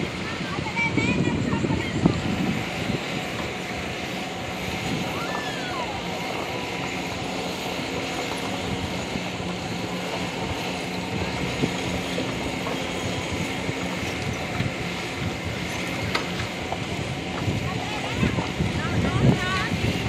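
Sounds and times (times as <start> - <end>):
diesel engine humming: 0.0 - 20.0
steel tracks clattering: 0.0 - 20.0.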